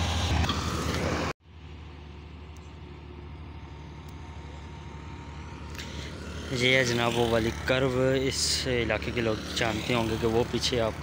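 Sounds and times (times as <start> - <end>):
distant vehicle engine hum: 0.0 - 11.0
road roller engine running: 0.0 - 11.0.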